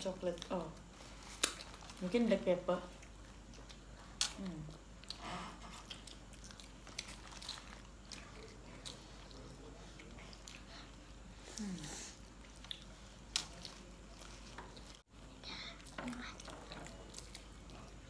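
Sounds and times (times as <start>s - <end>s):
biting and chewing food: 0.2s - 15.1s, 15.8s - 18.0s.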